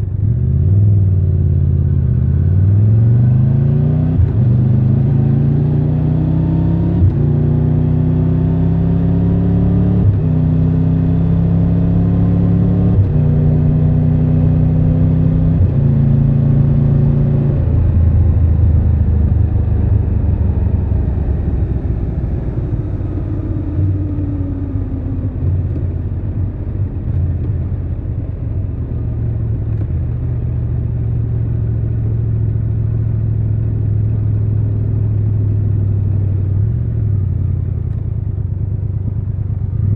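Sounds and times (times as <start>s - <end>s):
motorcycle engine accelerating through gears: 0.0s - 39.9s.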